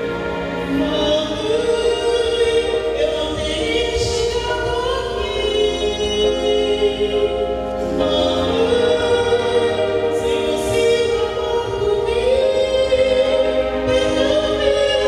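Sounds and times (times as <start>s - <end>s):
slow song with singing: 0.0s - 15.0s.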